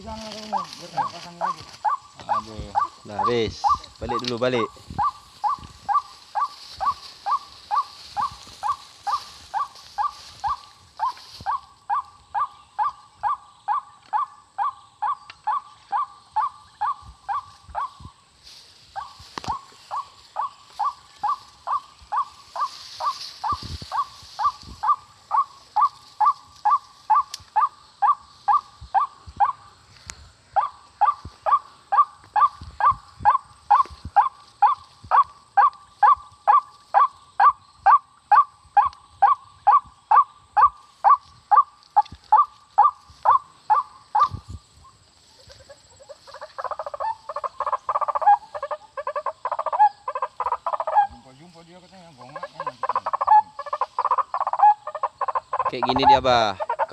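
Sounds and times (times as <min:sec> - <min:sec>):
jumbled croaking calls: 0:00.0 - 0:56.9.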